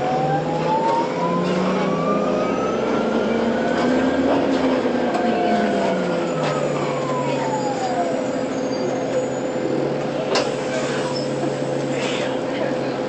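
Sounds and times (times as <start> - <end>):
bus drivetrain whining: 0.0 - 13.0.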